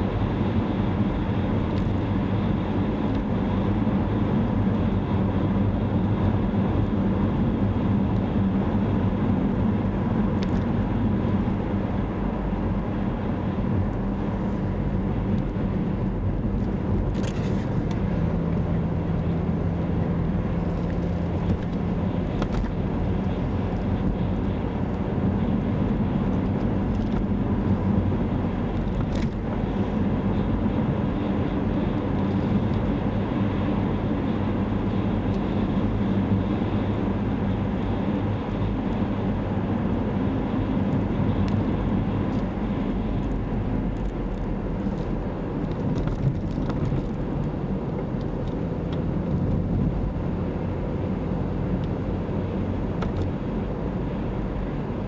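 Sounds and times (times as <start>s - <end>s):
car engine running: 0.0s - 55.0s
tyre road noise: 0.0s - 55.0s.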